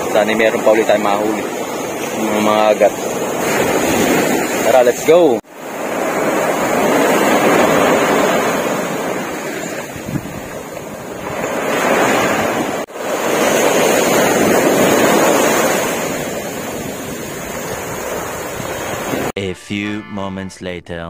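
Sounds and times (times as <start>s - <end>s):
sea waves breaking on beach: 0.0s - 19.4s.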